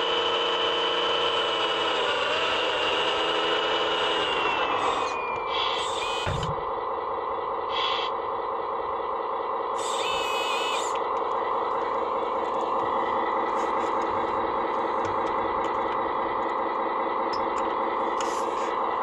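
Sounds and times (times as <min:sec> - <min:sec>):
toy wheel loader humming: 0:00.0 - 0:19.0.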